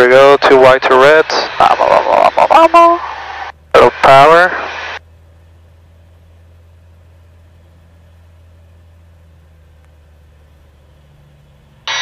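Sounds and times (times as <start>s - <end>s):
faint propeller plane drone: 0.0s - 12.0s.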